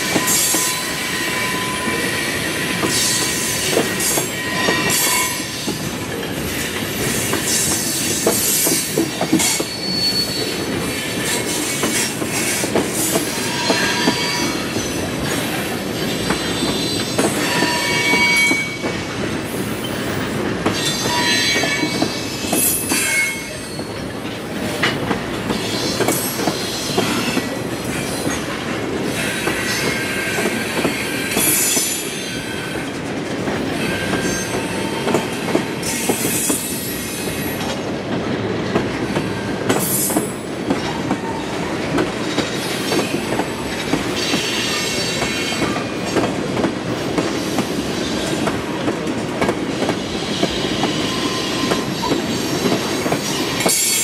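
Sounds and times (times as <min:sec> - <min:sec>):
wheels squealing on rail: 0:00.0 - 0:32.9, 0:33.6 - 0:37.8, 0:39.0 - 0:46.2, 0:49.7 - 0:54.0
train wheels clicking over rail joints: 0:00.0 - 0:54.0.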